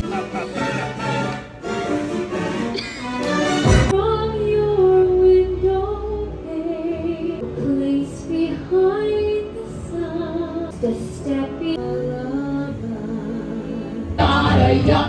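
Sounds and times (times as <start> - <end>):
musical accompaniment: 0.0 - 15.0.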